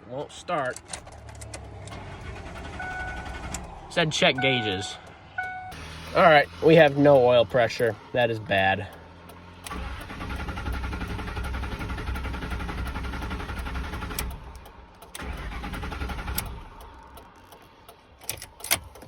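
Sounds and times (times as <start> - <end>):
truck engine cranking on starter: 0.8 - 4.0, 4.6 - 19.0.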